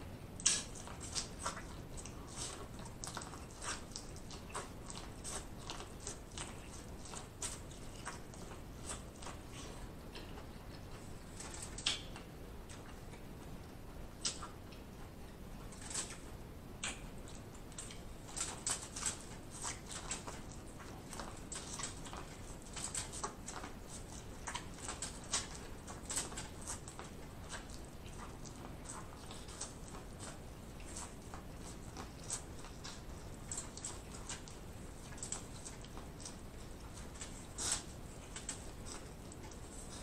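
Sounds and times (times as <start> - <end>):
teeth nibbling corn kernels: 0.3 - 40.0.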